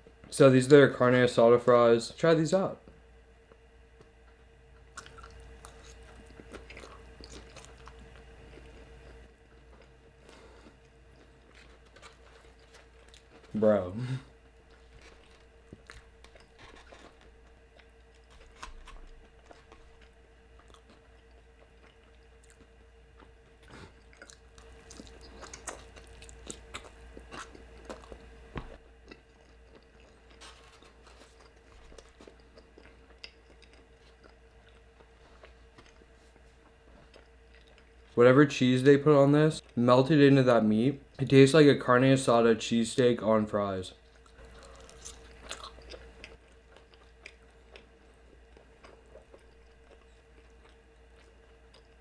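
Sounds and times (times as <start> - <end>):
steady faint hum: 0.0 - 52.0
chewing and crunching: 3.4 - 13.6, 14.3 - 38.2, 44.0 - 52.0.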